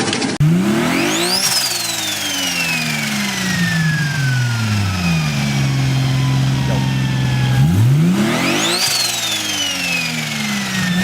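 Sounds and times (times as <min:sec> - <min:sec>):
car engine revving then idling: 0:00.4 - 0:11.0
turbo whistle: 0:01.2 - 0:11.0.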